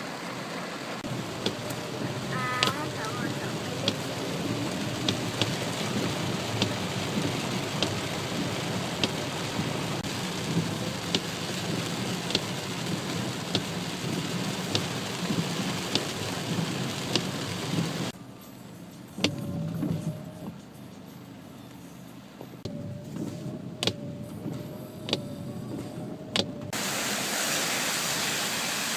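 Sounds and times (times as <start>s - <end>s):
heavy rain: 0.0s - 18.2s, 22.7s - 28.9s.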